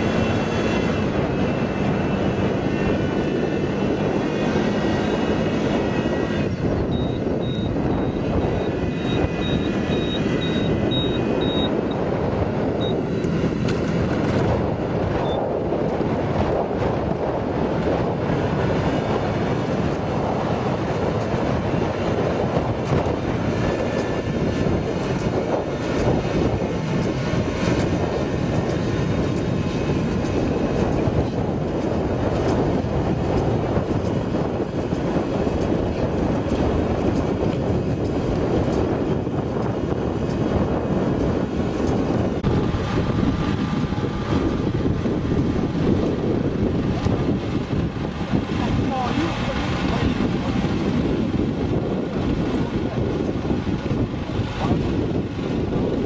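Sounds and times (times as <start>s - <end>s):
engine rumbling: 0.0s - 56.0s.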